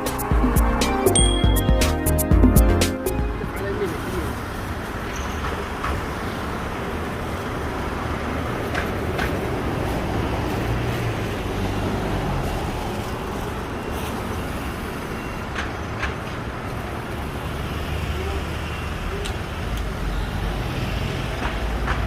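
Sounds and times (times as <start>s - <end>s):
passing vehicles rumbling: 2.0s - 22.0s.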